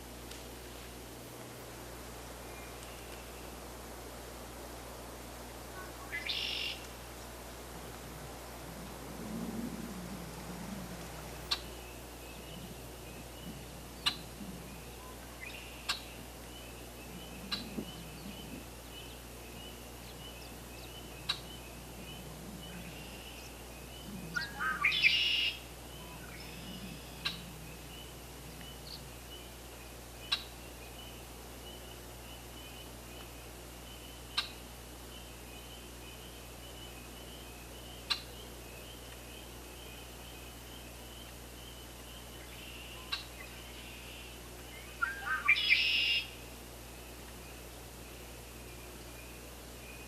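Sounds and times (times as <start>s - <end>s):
birds calling sharp notes: 7.9s - 50.0s.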